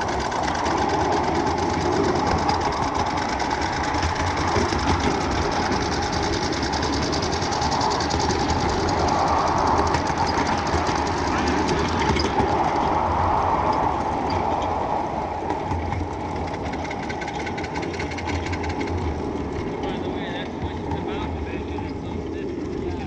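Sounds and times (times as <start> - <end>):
miniature train wheels clattering: 0.0 - 13.0, 15.4 - 23.0.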